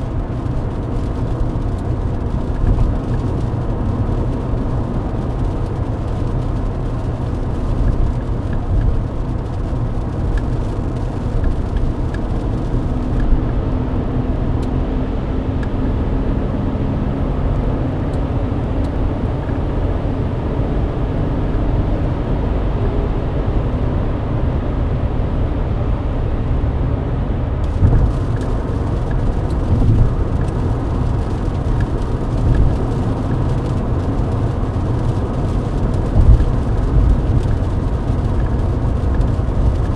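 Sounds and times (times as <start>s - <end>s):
engine and tyres on wet road: 0.0s - 39.9s.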